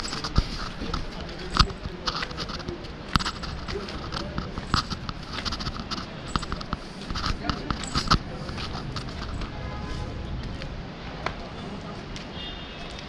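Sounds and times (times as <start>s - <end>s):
footsteps on gritty concrete: 0.0s - 13.0s.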